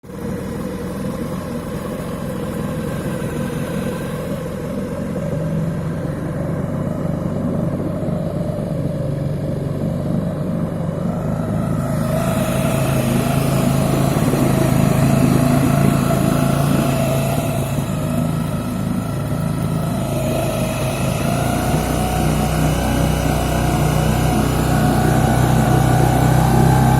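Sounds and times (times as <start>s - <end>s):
small petrol engine running: 0.0s - 26.9s.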